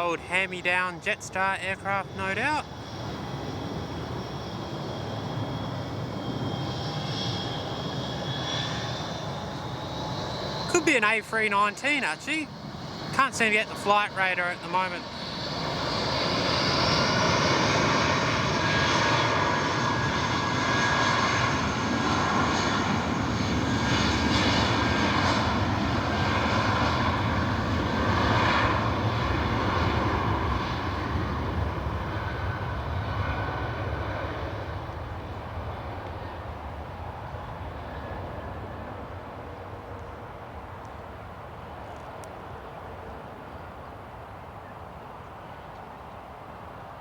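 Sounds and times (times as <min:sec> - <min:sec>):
jet airliner taking off: 0:00.0 - 0:41.8.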